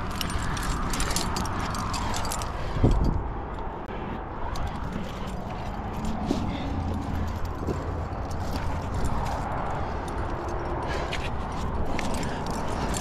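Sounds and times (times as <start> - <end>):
climbing gear jingling: 0.0 - 3.7, 4.5 - 13.0.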